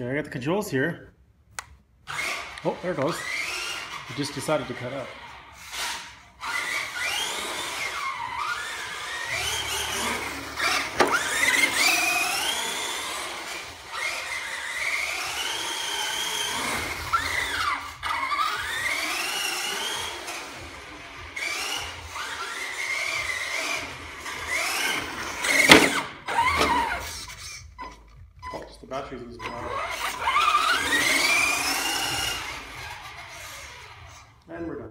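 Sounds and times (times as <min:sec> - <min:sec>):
electric motor whining: 0:02.1 - 0:28.6, 0:29.2 - 0:34.4.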